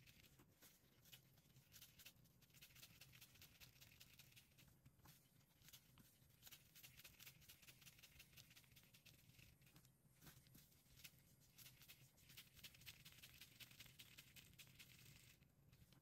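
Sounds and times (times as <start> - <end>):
rustling and crackling of kneading: 0.0 - 16.0.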